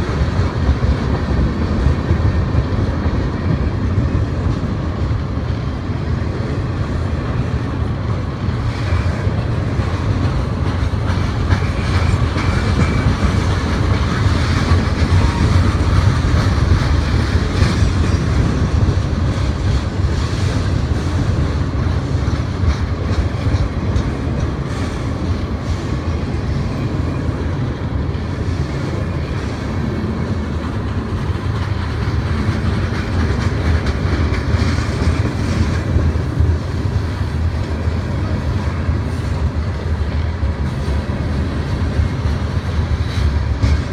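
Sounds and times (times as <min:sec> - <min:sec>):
freight train rumbling past: 0:00.0 - 0:43.9
wheels clicking over rail joints: 0:06.8 - 0:43.9.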